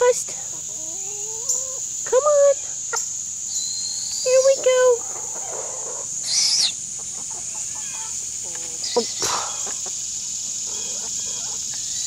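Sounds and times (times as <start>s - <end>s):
chickens clucking: 0.0s - 3.4s, 4.2s - 12.0s
insects droning: 0.0s - 12.0s.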